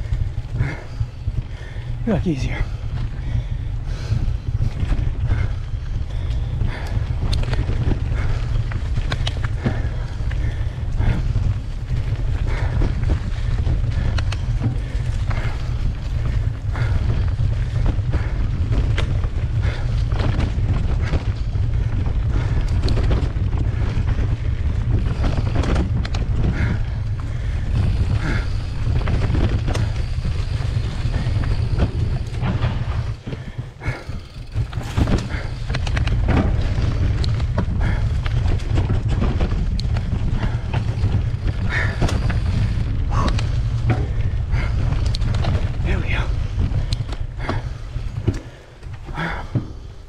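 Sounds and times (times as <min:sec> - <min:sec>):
bike tyres clicking and rattling: 0:00.0 - 0:50.0
wind buffeting microphone: 0:00.0 - 0:50.0.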